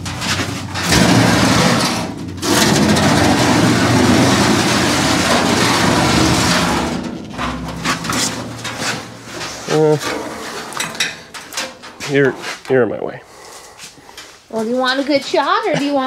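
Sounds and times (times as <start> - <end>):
sheet metal scraping and flexing: 0.0 - 16.0.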